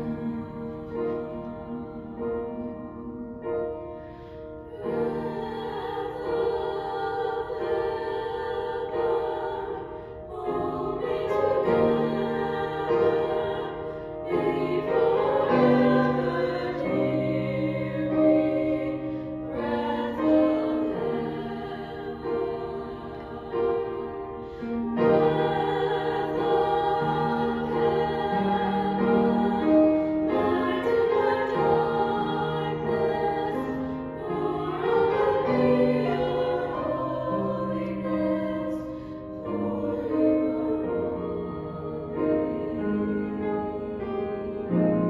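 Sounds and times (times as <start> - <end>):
girls choir singing in harmony: 0.0 - 45.0
piano accompaniment: 0.0 - 45.0.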